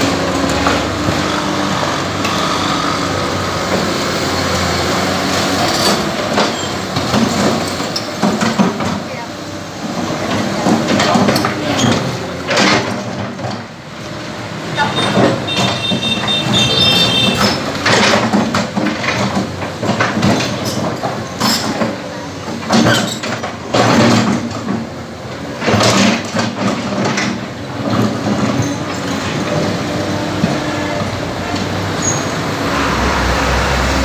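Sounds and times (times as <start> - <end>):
excavator diesel engine running: 0.0 - 34.0
grinding and clattering rubble: 0.0 - 34.0.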